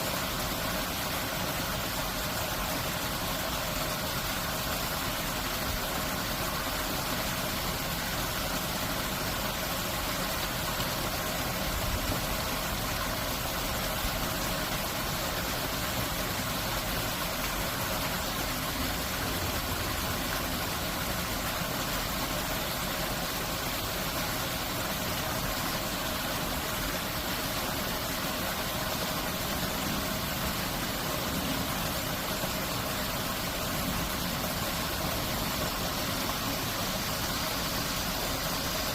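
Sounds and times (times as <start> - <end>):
stream water rushing through floodgate: 0.0 - 38.9.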